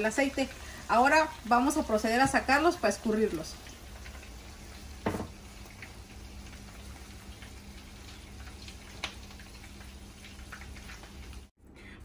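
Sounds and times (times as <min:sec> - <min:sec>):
oil sizzling: 0:00.0 - 0:11.5.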